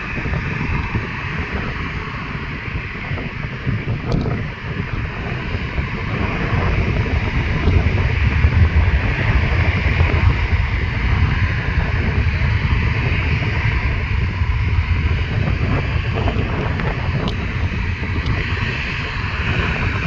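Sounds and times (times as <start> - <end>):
airliner engines at takeoff power: 0.0 - 20.0.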